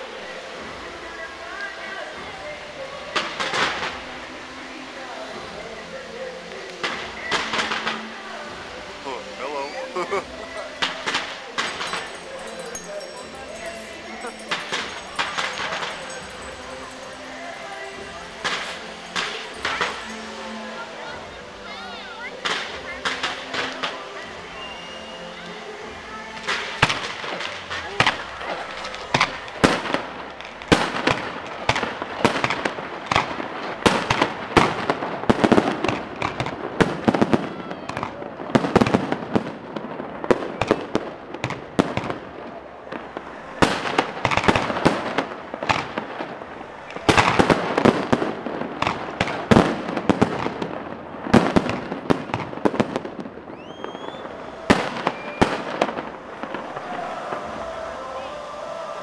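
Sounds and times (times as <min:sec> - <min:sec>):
fireworks bursting with sharp bangs: 0:00.0 - 0:59.0
fireworks crackling: 0:00.0 - 0:59.0.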